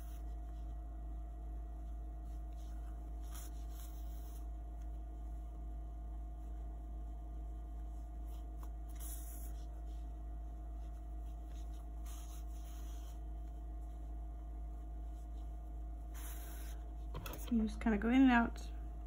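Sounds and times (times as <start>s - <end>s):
rustling of yarn and fabric: 0.0s - 16.1s
electrical mains hum: 0.0s - 19.0s.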